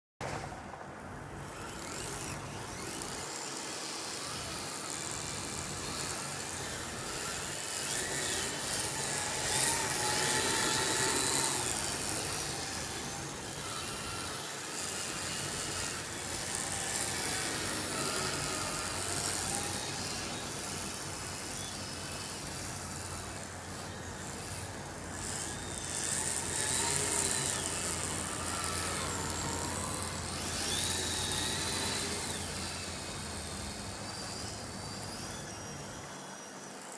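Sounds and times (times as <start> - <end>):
electric motors whining: 0.2 - 36.9.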